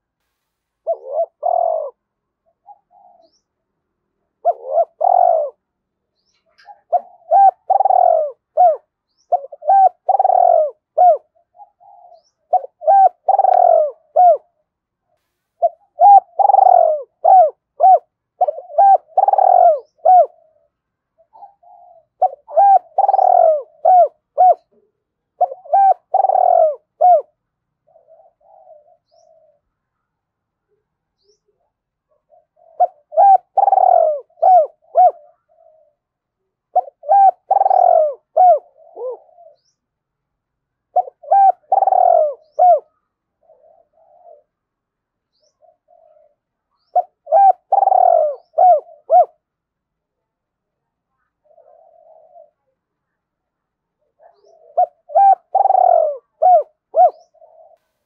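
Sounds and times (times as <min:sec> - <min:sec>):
dove cooing: 0:00.8 - 0:03.5, 0:04.1 - 0:05.7, 0:06.3 - 0:14.6, 0:15.6 - 0:29.7, 0:30.7 - 0:39.8, 0:40.9 - 0:44.7, 0:45.3 - 0:49.5, 0:51.2 - 0:52.8, 0:54.0 - 0:57.9.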